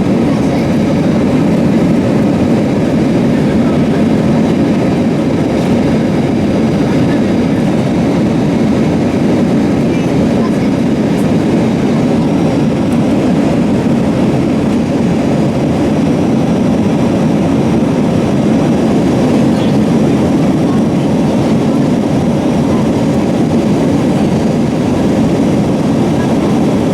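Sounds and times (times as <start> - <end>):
aircraft cabin engine roar: 0.0 - 26.9.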